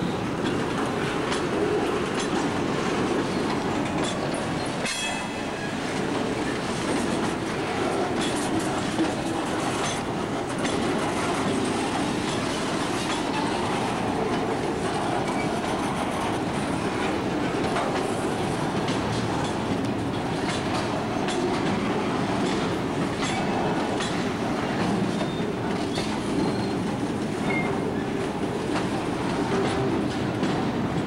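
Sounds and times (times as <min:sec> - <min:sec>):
train cars rumbling past: 0:00.0 - 0:31.0.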